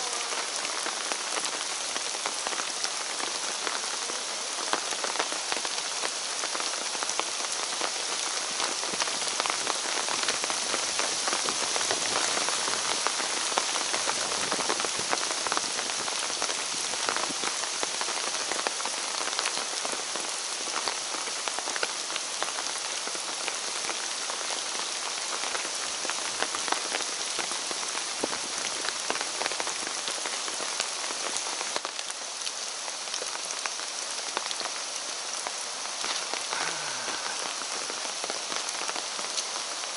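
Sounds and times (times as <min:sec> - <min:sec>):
raindrops striking close by: 0:00.0 - 0:39.9
steady rain: 0:00.0 - 0:39.9.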